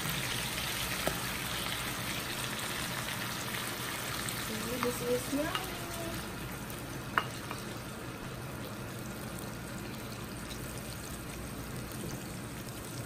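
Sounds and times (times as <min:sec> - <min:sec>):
broth sizzling in a frying pan: 0:00.0 - 0:13.0.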